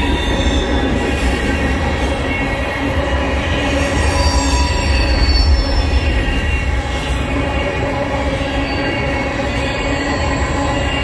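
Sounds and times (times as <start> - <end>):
freight train wheels rumbling on rails: 0.0 - 11.0
high wheel squeal: 0.0 - 11.0.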